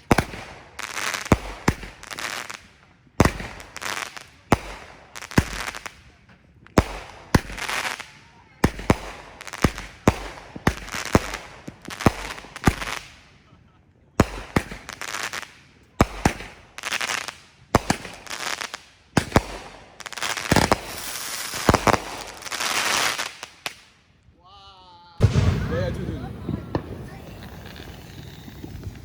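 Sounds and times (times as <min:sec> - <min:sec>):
fireworks bangs: 0:00.0 - 0:13.3, 0:14.2 - 0:24.0, 0:25.2 - 0:29.0
fireworks crackling: 0:00.0 - 0:13.6, 0:14.2 - 0:24.1, 0:25.2 - 0:29.0.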